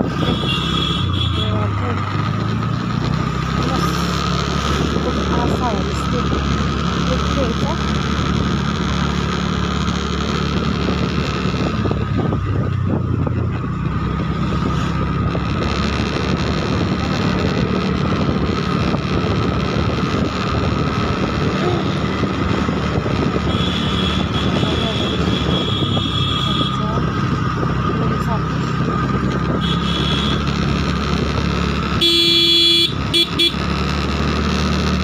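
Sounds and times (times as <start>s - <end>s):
wind noise on microphone: 0.0s - 6.9s, 7.7s - 32.2s
vehicle engine running: 0.0s - 35.0s.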